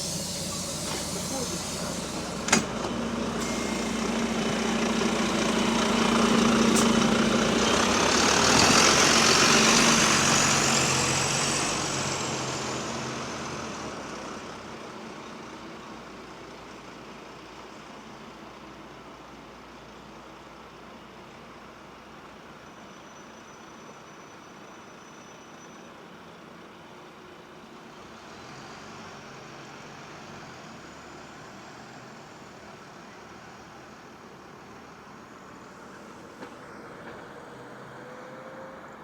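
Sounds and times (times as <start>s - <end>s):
bus engine running: 0.0s - 25.2s, 26.0s - 39.0s.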